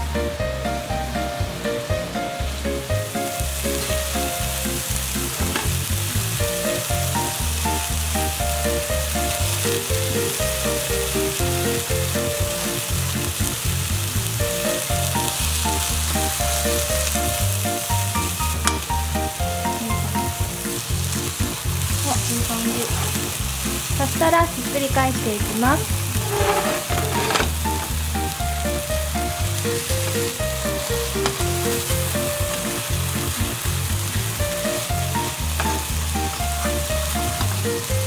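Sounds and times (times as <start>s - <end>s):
patties sizzling in oil: 0.0s - 38.0s.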